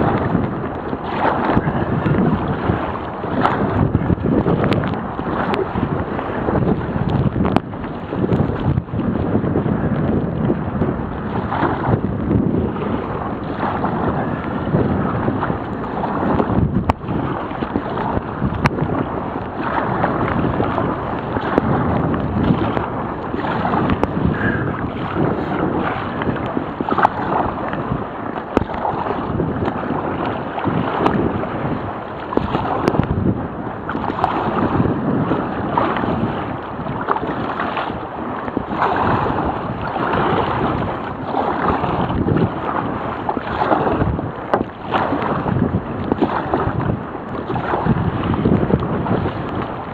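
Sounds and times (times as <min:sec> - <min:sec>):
sea water splashing around kayak: 0:00.0 - 0:49.9
wind buffeting microphone: 0:00.0 - 0:49.9.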